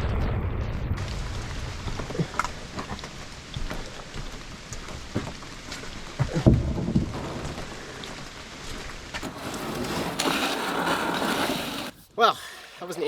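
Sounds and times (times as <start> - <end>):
rain hissing on water: 1.0 - 12.8.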